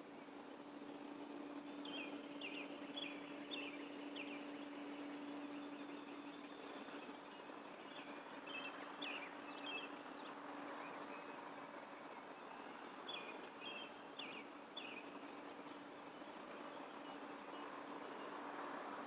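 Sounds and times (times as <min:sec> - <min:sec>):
background hiss: 0:00.0 - 0:19.0
low hum: 0:00.0 - 0:19.0.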